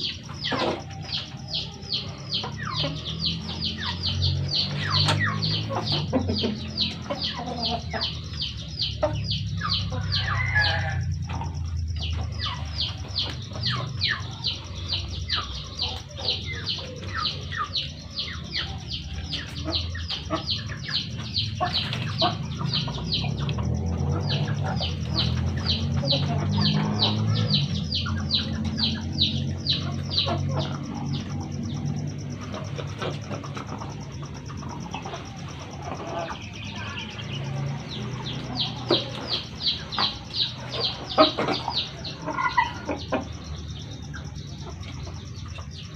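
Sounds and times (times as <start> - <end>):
chick peeping: 0.0 - 45.9.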